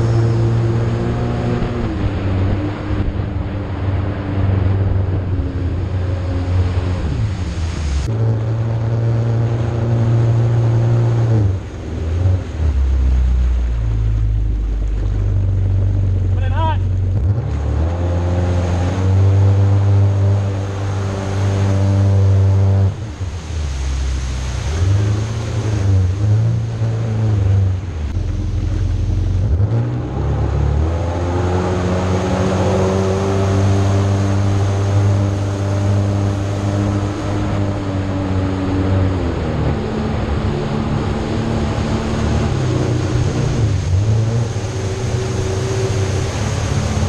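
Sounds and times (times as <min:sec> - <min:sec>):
jet ski engine running: 0:00.0 - 0:47.0
water rushing under hull: 0:00.0 - 0:47.0.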